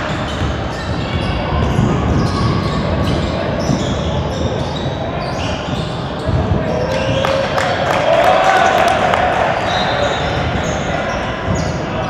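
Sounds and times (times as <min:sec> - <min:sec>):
sneakers squeaking and shuffling: 0:00.0 - 0:12.0.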